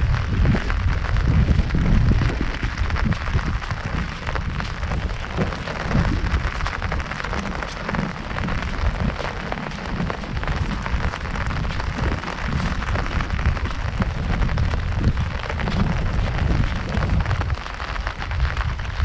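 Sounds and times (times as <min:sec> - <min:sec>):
heavy rain on an umbrella: 0:00.0 - 0:19.0
low rumble: 0:00.0 - 0:19.0.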